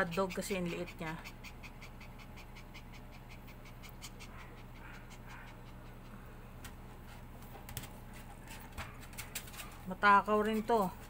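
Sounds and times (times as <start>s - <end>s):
puppy panting: 0.0s - 11.0s.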